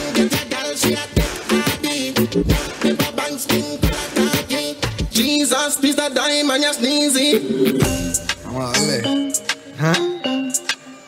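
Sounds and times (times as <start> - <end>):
dance music with vocals: 0.0 - 10.8.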